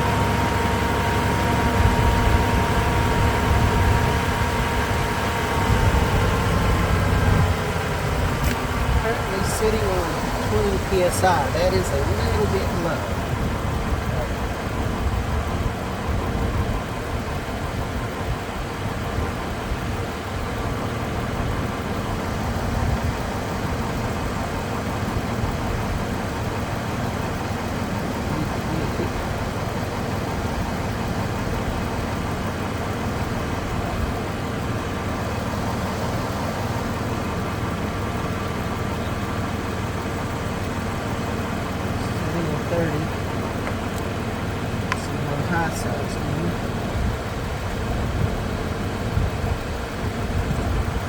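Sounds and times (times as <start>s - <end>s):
air conditioning compressor running: 0.0s - 51.0s
car engine idling: 0.0s - 51.0s.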